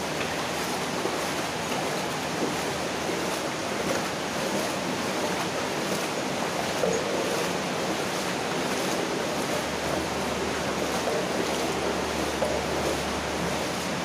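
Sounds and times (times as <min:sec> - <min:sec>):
water rushing through a pipe: 0:00.0 - 0:14.0.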